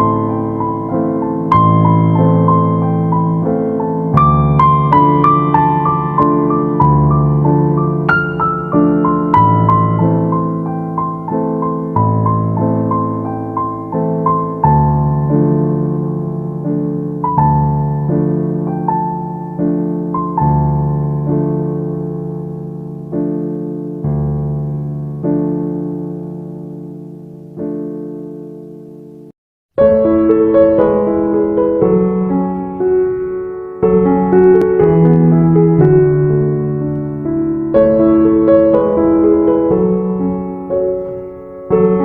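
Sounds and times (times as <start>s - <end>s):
gentle piano music: 0.0s - 42.0s.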